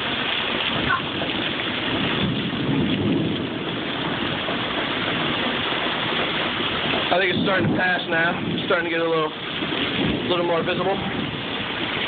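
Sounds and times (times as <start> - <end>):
heavy rain pouring: 0.0 - 12.0
low rumble: 0.0 - 12.0
strong gusting wind: 0.0 - 12.0.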